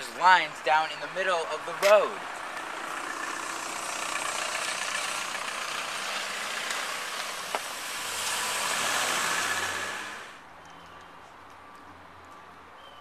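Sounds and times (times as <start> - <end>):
minivan passing: 0.0 - 10.4
traffic noise: 0.0 - 13.0.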